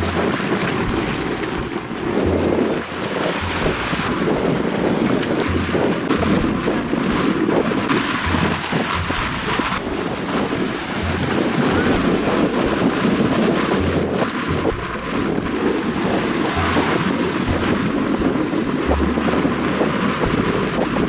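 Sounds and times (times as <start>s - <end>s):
sea waves: 0.0s - 21.0s
wind buffeting microphone: 0.0s - 21.0s.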